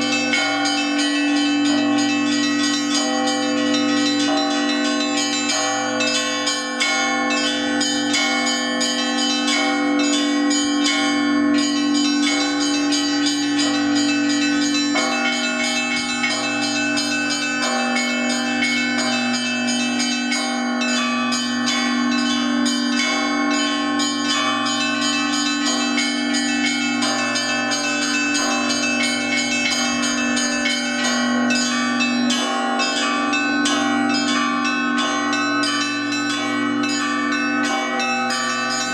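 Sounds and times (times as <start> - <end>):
church bells pealing: 0.0 - 38.9
rapid strikes of small bells: 0.0 - 38.9
sustained ringing of large bells: 0.0 - 38.9.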